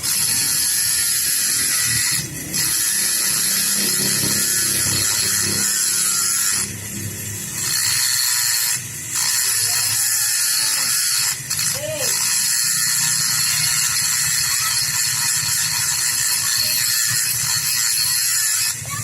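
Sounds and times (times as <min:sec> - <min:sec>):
power tool hissing: 0:00.0 - 0:19.0.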